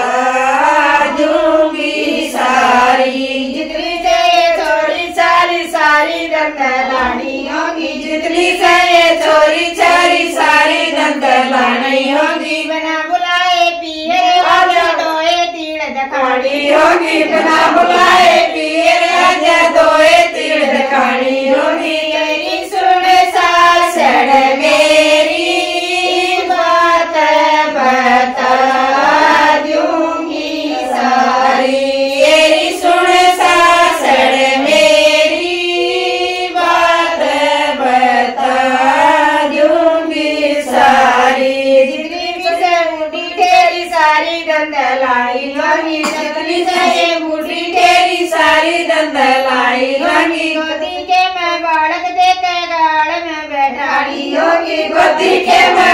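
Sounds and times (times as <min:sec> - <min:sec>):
women singing folk song: 0:00.0 - 0:51.8, 0:53.5 - 0:55.9.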